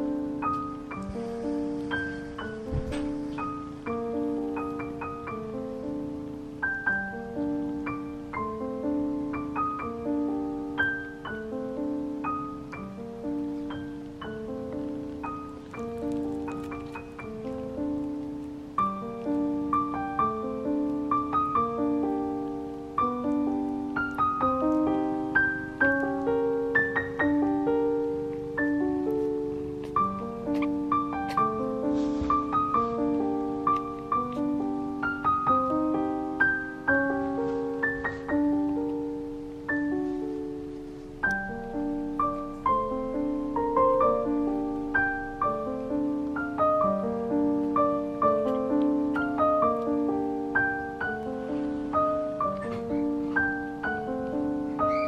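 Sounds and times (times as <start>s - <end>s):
slow gentle piano melody: 0.0s - 55.0s.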